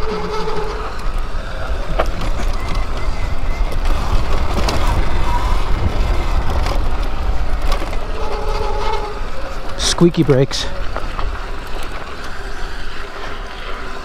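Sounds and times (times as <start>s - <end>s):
tyres on loose dirt: 0.0s - 14.0s
wind rumble on microphone: 0.0s - 14.0s.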